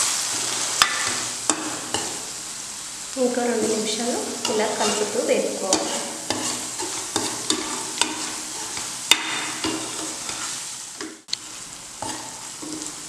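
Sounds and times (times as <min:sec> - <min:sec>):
spatula stirring and scraping: 0:00.0 - 0:02.3, 0:04.4 - 0:13.0
paste sizzling in oil: 0:00.0 - 0:13.0.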